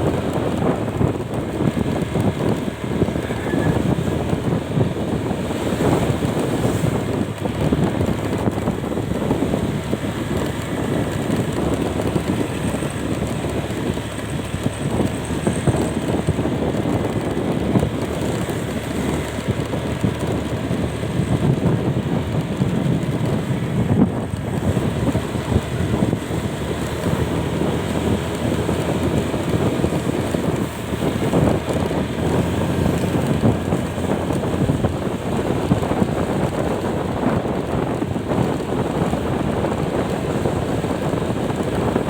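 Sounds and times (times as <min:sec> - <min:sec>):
road noise: 0:00.0 - 0:42.0
vehicle engine: 0:00.0 - 0:42.0
wind buffeting microphone: 0:00.0 - 0:42.0.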